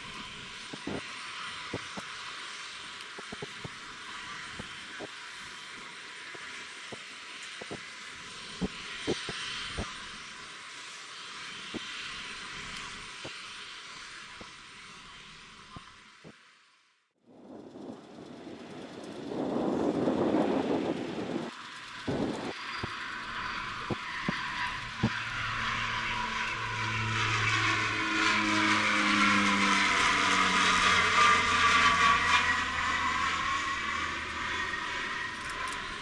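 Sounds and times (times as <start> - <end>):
turboprop aircraft flying by: 0.0 - 16.5, 17.2 - 36.0.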